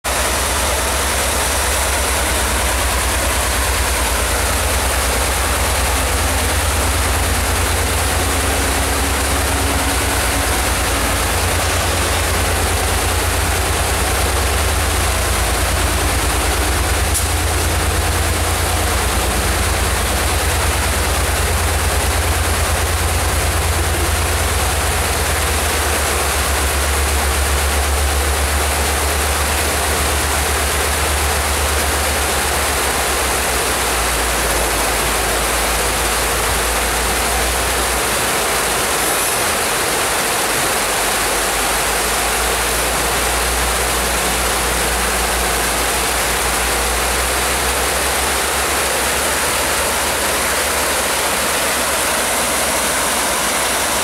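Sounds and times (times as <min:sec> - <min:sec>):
creek rapids rushing: 0:00.0 - 0:54.0
train cars rumbling over trestle: 0:00.1 - 0:54.0.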